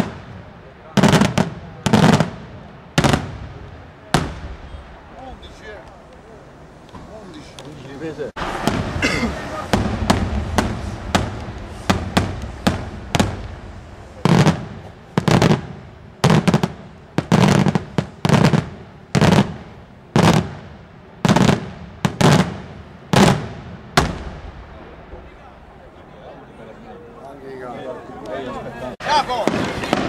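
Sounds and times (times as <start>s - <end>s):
fireworks bursting with echo: 0.0s - 26.9s, 29.0s - 30.0s.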